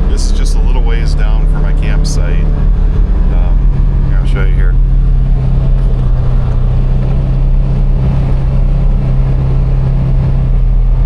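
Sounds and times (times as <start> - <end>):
utility vehicle engine drone: 0.0 - 11.0.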